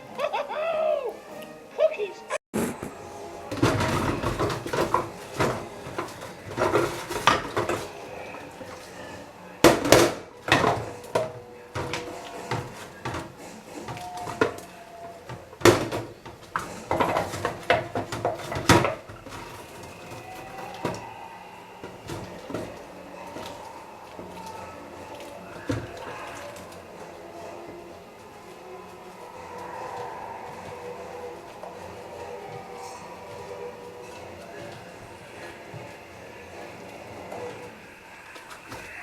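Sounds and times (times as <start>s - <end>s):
dishes and cutlery clattering: 2.6s - 36.0s.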